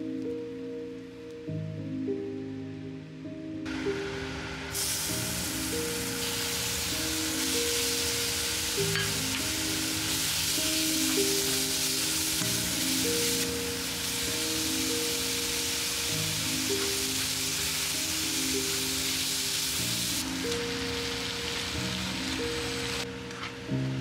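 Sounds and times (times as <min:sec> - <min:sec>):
soft background music: 0:00.0 - 0:24.0
garlic sizzling in hot oil: 0:03.8 - 0:23.1.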